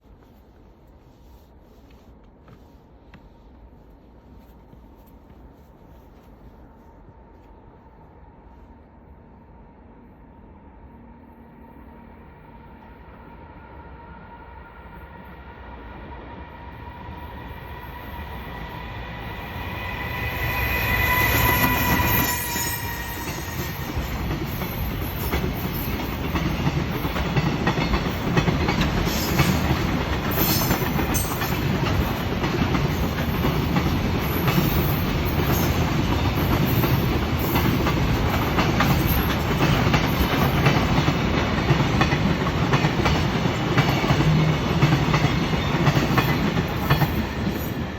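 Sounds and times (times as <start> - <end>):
electric locomotive whine: 6.5 - 47.9.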